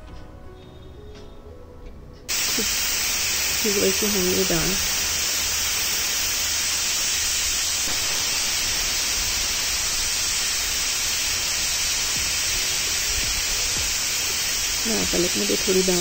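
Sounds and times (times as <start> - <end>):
pressure cooker hissing: 2.3 - 16.0.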